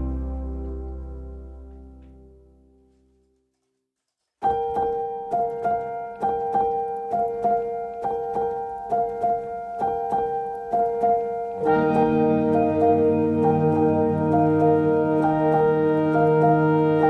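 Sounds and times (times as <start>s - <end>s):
piano music: 0.0s - 2.9s, 4.4s - 17.0s.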